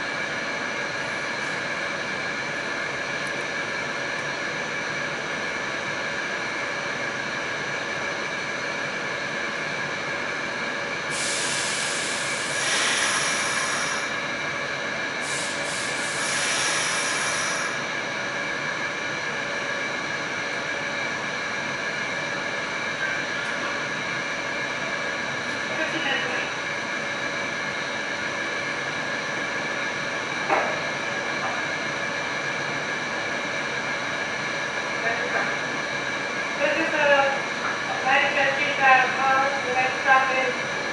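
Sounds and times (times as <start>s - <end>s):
subway car rumble and hum: 0.0s - 40.9s.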